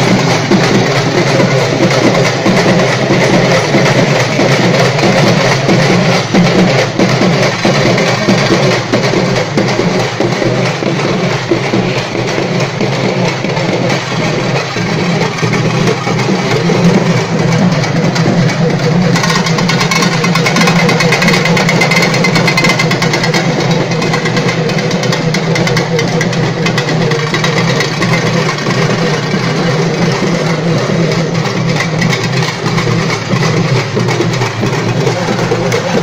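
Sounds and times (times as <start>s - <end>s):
barrel drums beaten with sticks: 0.0s - 36.0s.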